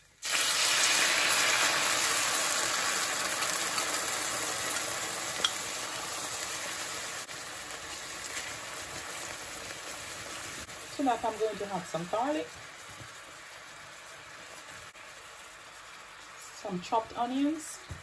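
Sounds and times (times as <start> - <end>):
sauce sizzling in hot pot: 0.0 - 18.0.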